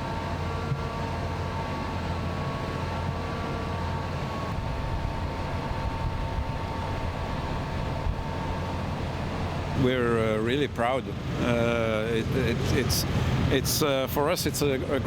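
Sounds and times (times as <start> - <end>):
large engine humming: 0.0 - 15.0.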